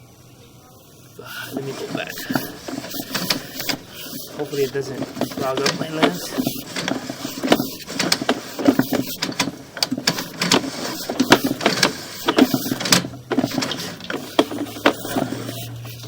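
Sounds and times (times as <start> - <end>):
cable clattering and scraping: 1.3 - 16.0.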